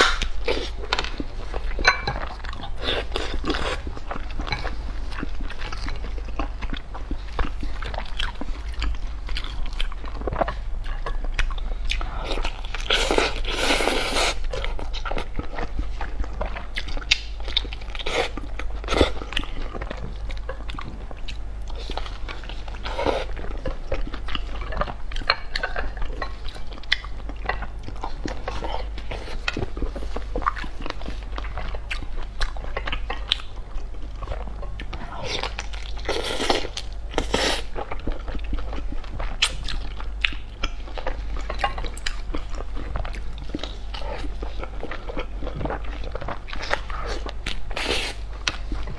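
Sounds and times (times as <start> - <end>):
wet biting and chewing: 0.0 - 48.9.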